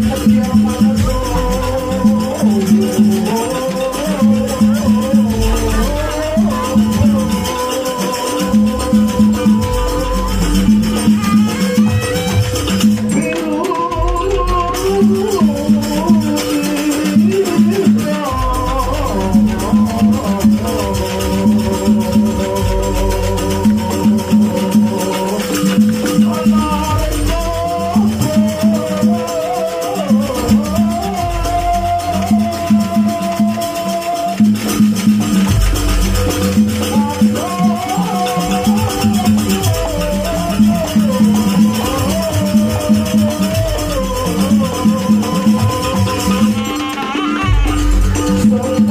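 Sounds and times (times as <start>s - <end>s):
gamelan music: 0.0s - 48.9s
percussion beat: 0.0s - 48.9s
wavering melody: 0.0s - 48.9s.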